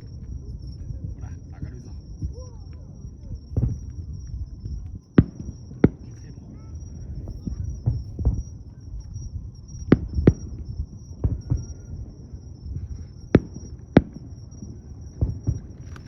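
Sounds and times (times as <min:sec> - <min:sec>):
faint high steady whine: 0:00.0 - 0:16.0
low rumble of fireworks: 0:00.0 - 0:16.0
fireworks bangs: 0:00.1 - 0:16.0.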